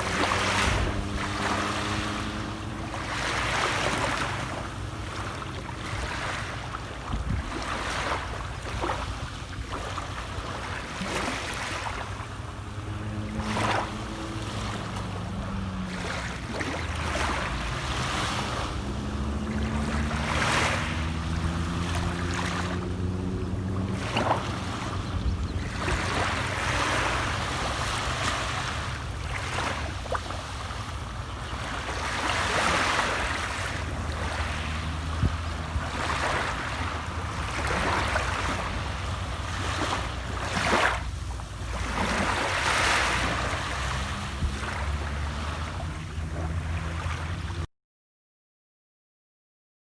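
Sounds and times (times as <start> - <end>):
sea waves breaking: 0.0 - 47.7.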